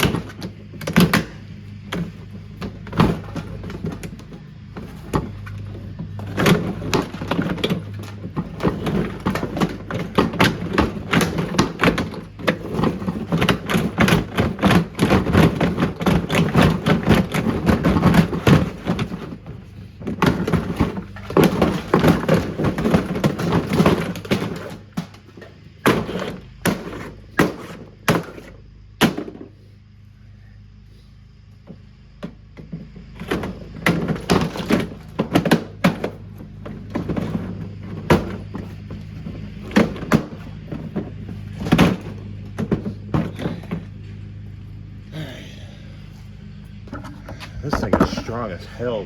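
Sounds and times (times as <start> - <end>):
plastic housing being smashed: 0.0 - 29.5, 32.2 - 44.0.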